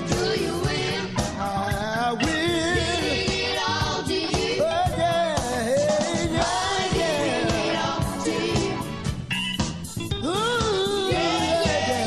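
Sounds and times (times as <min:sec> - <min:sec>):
male vocal group singing: 0:00.0 - 0:08.8, 0:10.2 - 0:12.0
band backing: 0:00.0 - 0:12.0
steady drum beat: 0:00.0 - 0:12.0.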